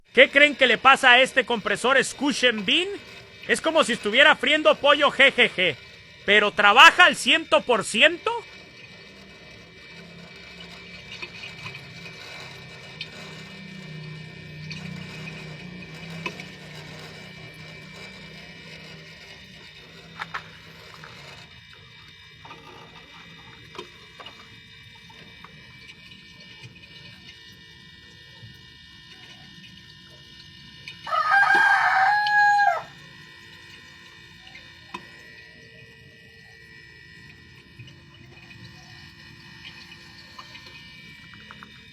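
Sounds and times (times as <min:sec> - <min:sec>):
crackling clicks inside refrigerator: 0:00.0 - 0:41.9
refrigerator compressor humming: 0:00.0 - 0:41.9.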